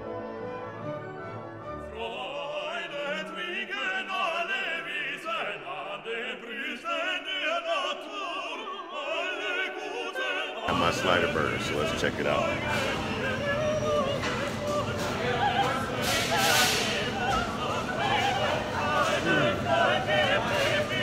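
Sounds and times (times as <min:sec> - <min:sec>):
operatic voice singing: 0:01.9 - 0:21.0.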